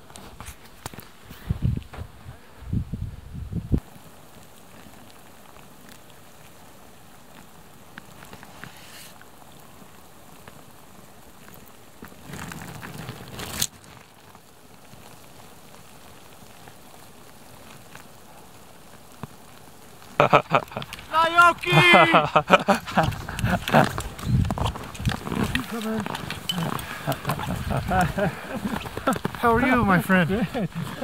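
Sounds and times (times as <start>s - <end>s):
faint crackles: 0.0s - 2.5s, 3.7s - 31.0s
rustle: 0.0s - 31.0s
snowfield ambience hiss: 0.0s - 31.0s.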